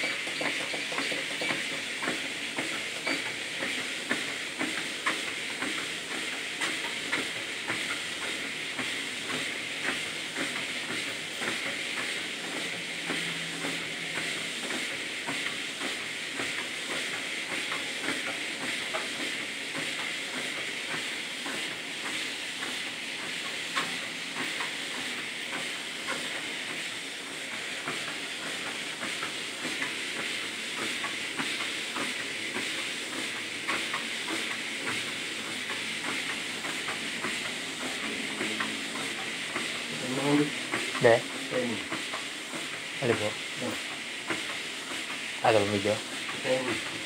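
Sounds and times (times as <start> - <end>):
treadmill belt hissing: 0.0 - 47.0.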